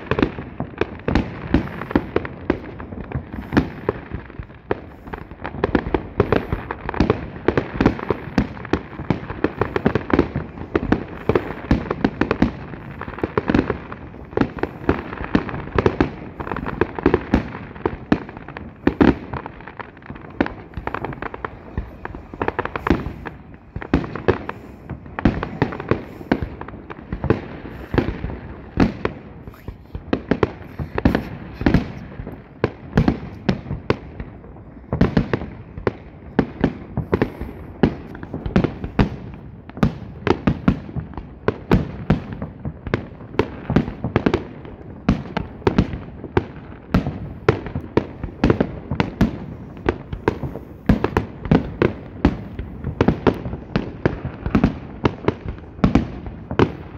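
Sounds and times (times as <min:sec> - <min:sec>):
fireworks bursting: 0:00.0 - 0:56.9.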